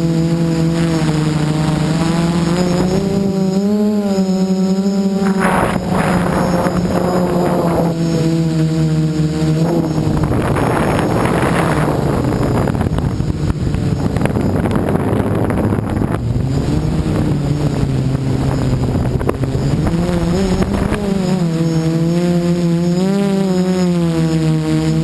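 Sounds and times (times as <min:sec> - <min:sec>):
drone motors whining: 0:00.0 - 0:25.0
wind on microphone: 0:00.0 - 0:25.0.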